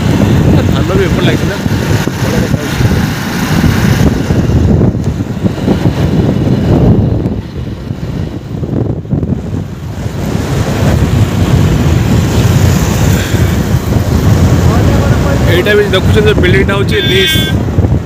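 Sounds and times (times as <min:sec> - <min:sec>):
motorcycle engine running: 0:00.0 - 0:16.2
wind rushing over microphone: 0:00.0 - 0:18.0.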